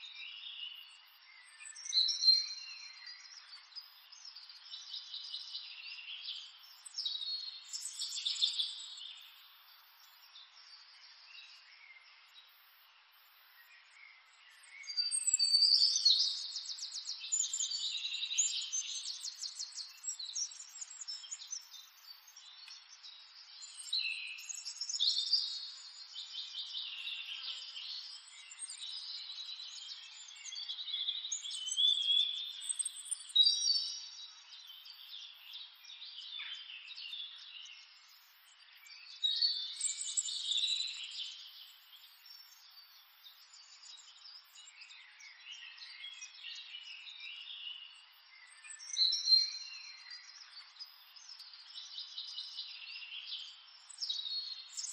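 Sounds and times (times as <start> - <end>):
wild birds singing: 0.0 - 54.9.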